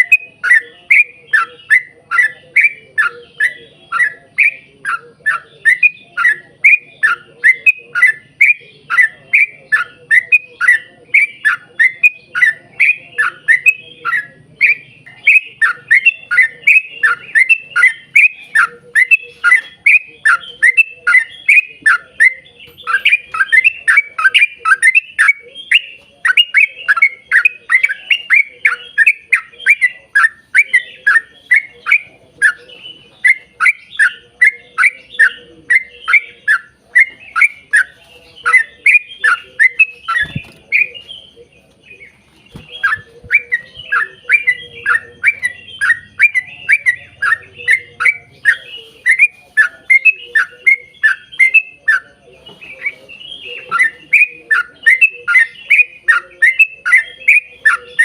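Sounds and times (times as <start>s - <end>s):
bird chattering song: 0.0s - 58.0s.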